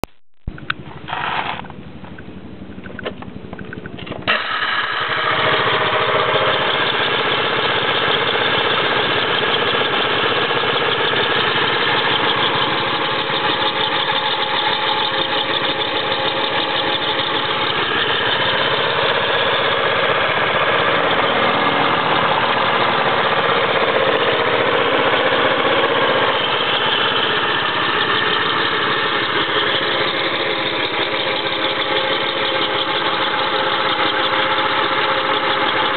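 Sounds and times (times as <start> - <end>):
machine with faulty bearing: 0.5 - 35.9.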